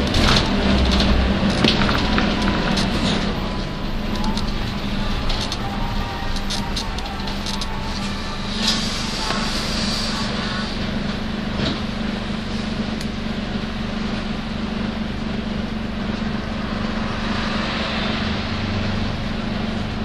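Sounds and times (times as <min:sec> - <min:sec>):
bus engine drone from inside: 0:00.0 - 0:20.0.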